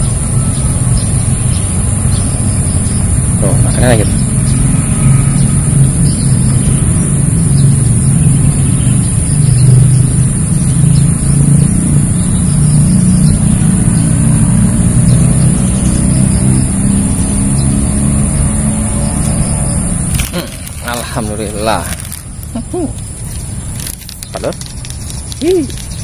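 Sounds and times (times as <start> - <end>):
engine humming: 0.0 - 26.0
high-pitched whine: 0.0 - 26.0.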